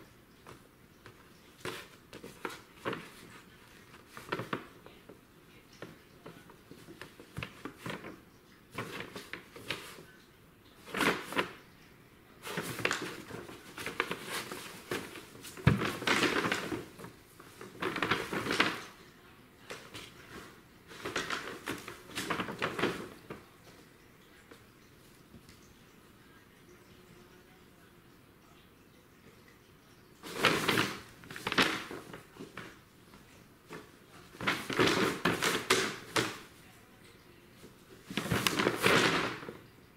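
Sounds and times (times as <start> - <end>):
paper crinkling and rustling: 0.4 - 11.6, 12.4 - 24.6, 30.2 - 36.7, 37.6 - 39.7.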